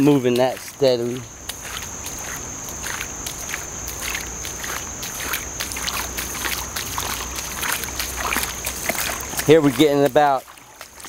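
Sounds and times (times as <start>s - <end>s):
footsteps wading through water: 0.0s - 11.0s.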